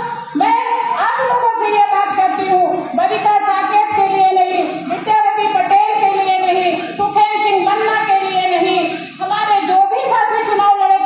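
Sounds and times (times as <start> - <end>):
woman singing through loudspeakers: 0.0 - 11.0.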